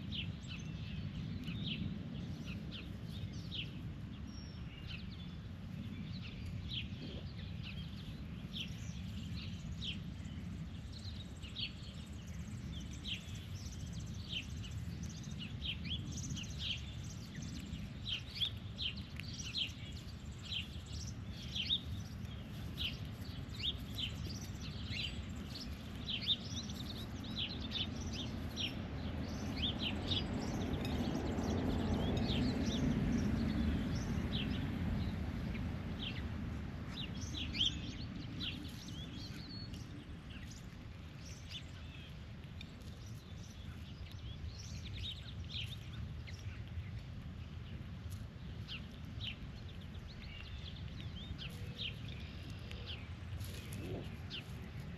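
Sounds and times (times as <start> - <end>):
low outdoor rumble: 0.0 - 54.9
small birds chirping: 0.0 - 54.9.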